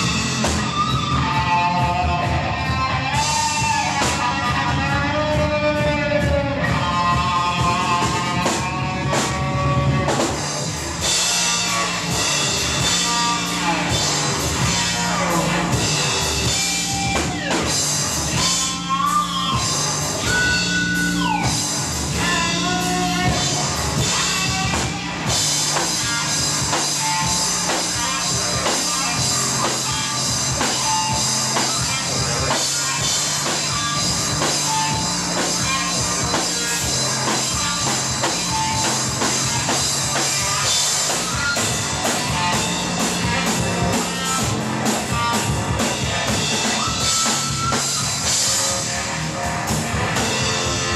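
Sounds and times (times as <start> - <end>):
drum kit: 0.0 - 50.9
electric guitar: 0.0 - 50.9.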